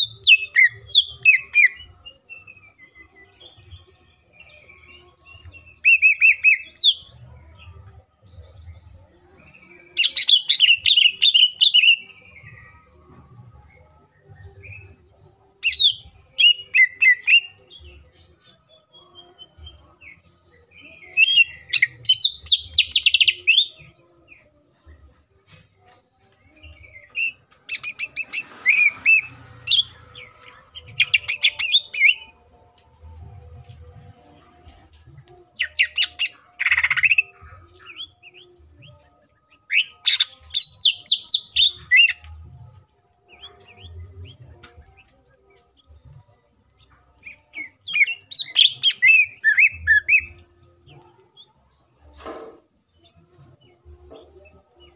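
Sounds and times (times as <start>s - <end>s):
bird singing: 0.0s - 32.6s, 34.7s - 52.2s.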